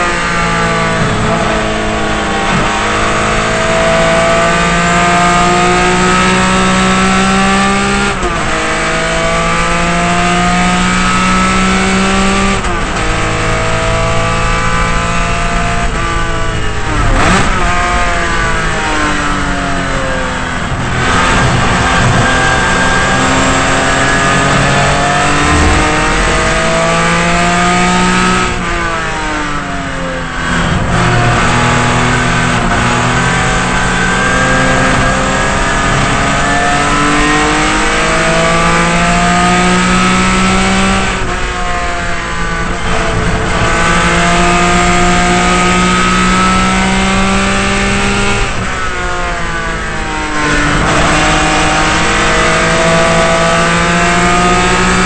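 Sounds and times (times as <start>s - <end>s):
racing car engine accelerating: 0.0s - 55.0s.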